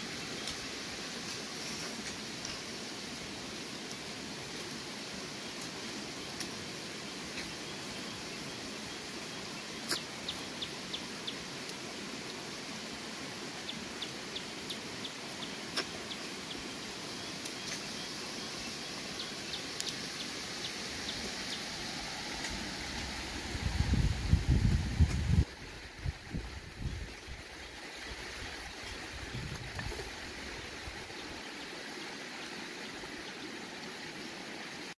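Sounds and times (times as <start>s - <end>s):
shallow rocky stream rushing: 0.0s - 34.9s.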